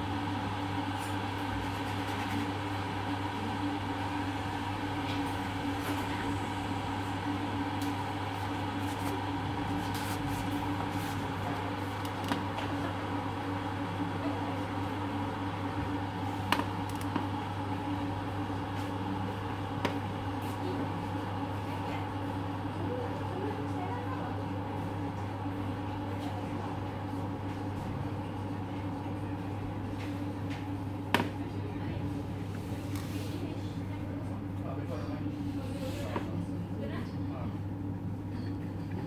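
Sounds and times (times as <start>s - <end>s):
electric kettle humming and hissing: 0.0s - 39.0s.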